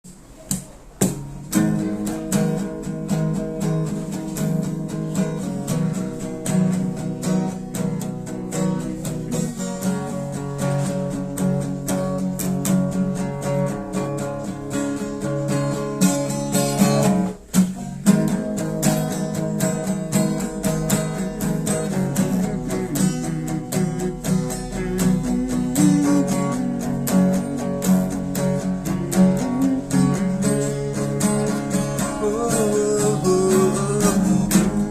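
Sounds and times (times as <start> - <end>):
strummed acoustic guitar: 0.0 - 34.9.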